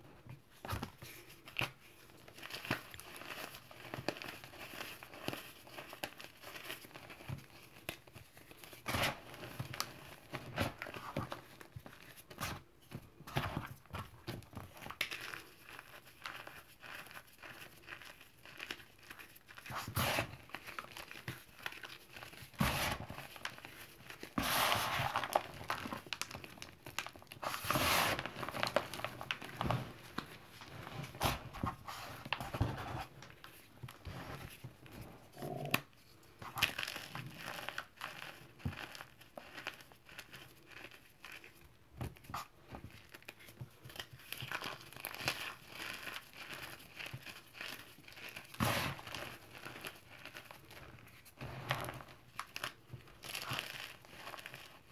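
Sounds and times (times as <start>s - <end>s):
chalk crunching and crumbling: 0.6s - 54.9s
powder rustling through fingers: 0.9s - 54.9s.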